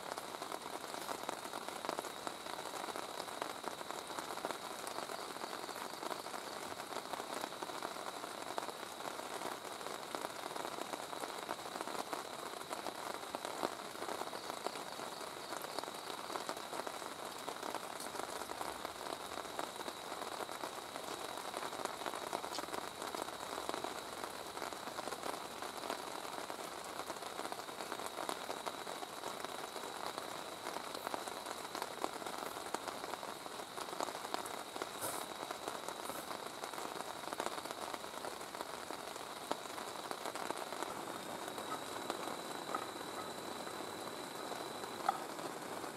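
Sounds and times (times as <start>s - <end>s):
rain falling on a tent: 0.0s - 45.9s.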